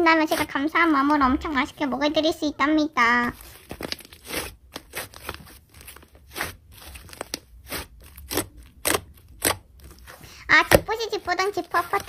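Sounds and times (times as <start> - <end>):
slime squeezed crackling: 0.0 - 1.4, 3.3 - 12.0.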